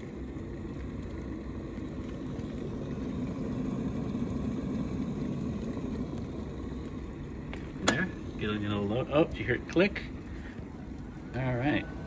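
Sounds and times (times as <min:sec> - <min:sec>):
electric kettle heating water: 0:00.0 - 0:12.0.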